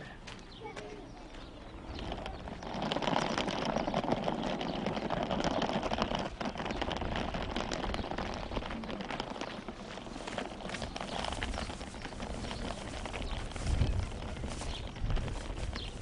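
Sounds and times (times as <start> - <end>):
suitcase wheels rattling on stones: 0.0 - 16.0.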